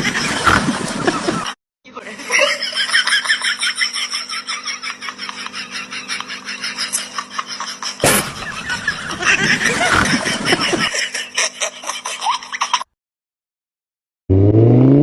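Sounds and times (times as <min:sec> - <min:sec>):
laughter: 0:00.0 - 0:13.0.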